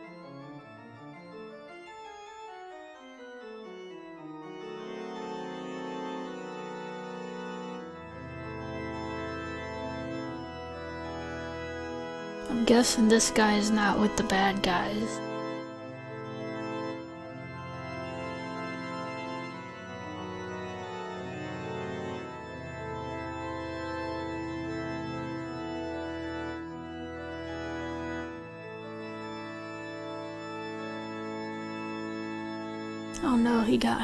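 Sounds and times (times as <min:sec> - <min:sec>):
organ playing sustained chords: 0:00.0 - 0:34.0.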